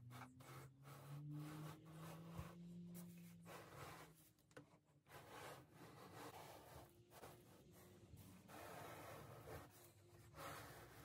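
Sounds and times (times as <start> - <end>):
wooden clock case sliding on paper: 0.1 - 11.0.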